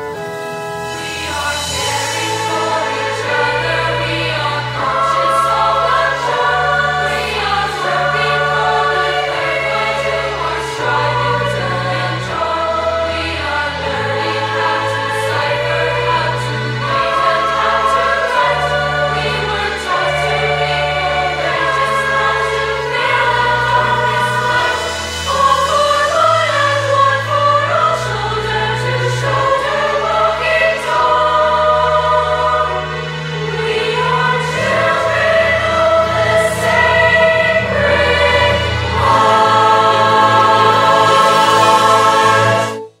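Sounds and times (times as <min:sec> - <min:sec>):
choir singing sustained chords: 0:00.0 - 0:43.0.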